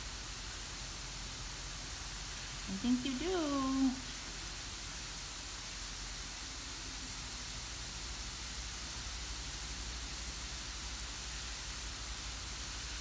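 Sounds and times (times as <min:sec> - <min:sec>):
hose spray hissing: 0:00.0 - 0:13.0.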